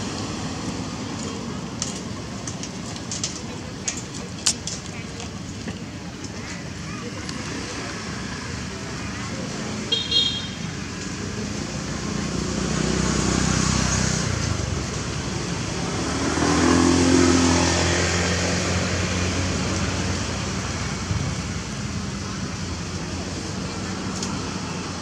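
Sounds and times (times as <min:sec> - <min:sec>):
vehicles passing on road: 0:00.0 - 0:25.0.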